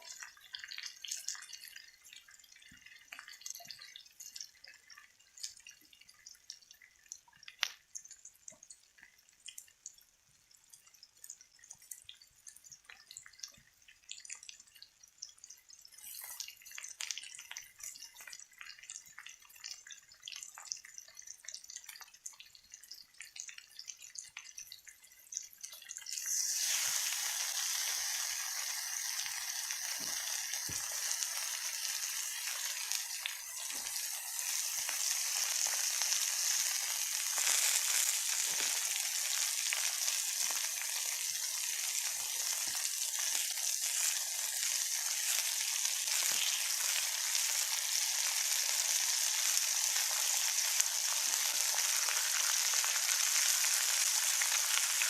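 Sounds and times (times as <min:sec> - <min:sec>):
food sizzling in a pan: 0:00.0 - 0:10.0, 0:10.6 - 0:55.0
faint drips and ticks: 0:00.0 - 0:26.3, 0:28.6 - 0:55.0.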